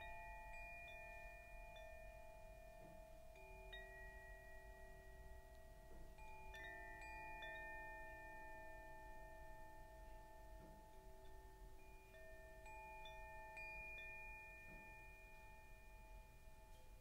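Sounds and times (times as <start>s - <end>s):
slow chime-like background music: 0.0s - 17.0s.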